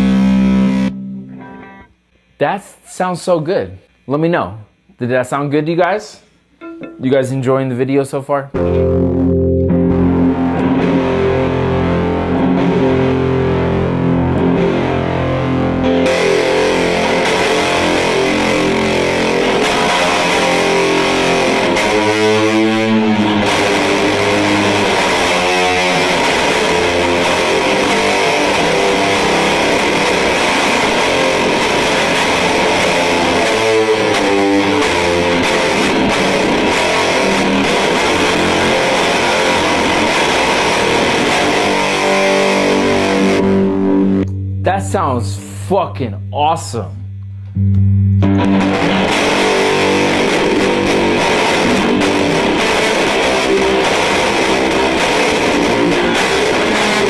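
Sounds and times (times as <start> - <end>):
distorted fuzz electric guitar: 0.0 - 2.3, 8.6 - 57.0.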